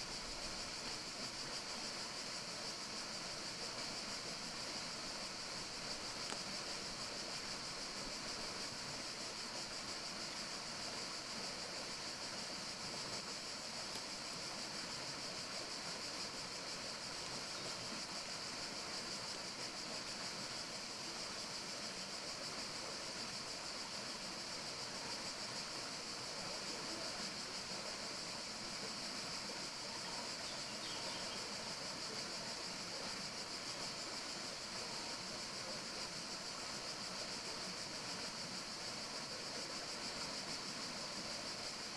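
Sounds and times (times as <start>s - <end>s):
forest ambience hiss: 0.0s - 41.9s.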